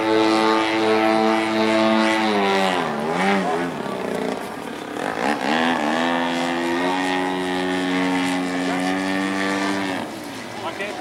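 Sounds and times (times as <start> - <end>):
model airplane engine: 0.0 - 11.0.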